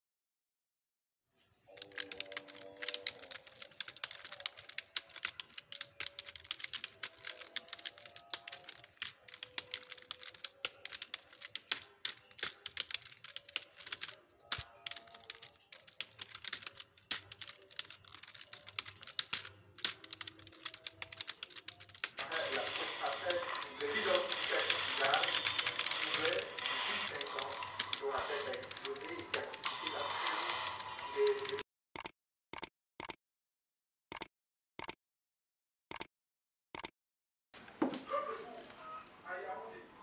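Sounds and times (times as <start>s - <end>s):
laptop keyboard typing: 1.7s - 33.2s, 34.1s - 35.0s.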